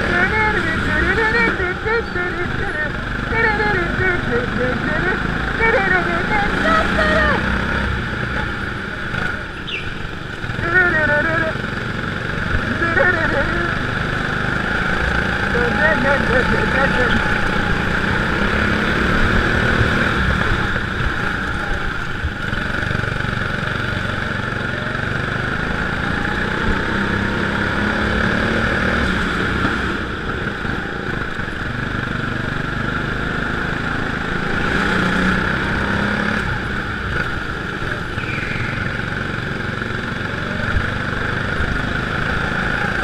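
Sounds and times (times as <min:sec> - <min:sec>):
go-kart engine revving: 0:00.0 - 0:43.0
other karts nearby: 0:00.0 - 0:43.0.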